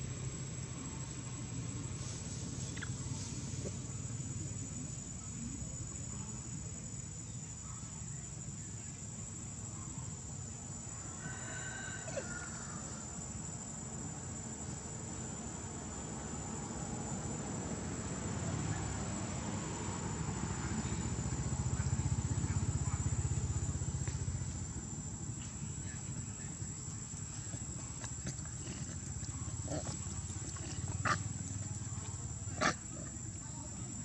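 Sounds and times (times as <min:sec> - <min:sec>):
insect drone: 0:00.0 - 0:34.0.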